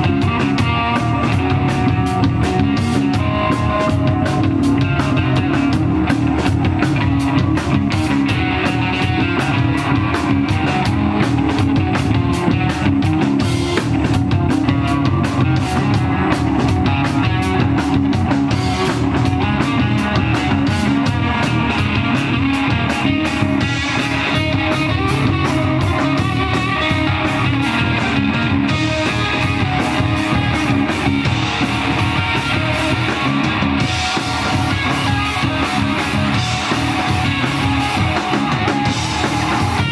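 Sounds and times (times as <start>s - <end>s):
drum and cymbal hits: 0.0s - 39.9s
instrumental rock band playing: 0.0s - 39.9s.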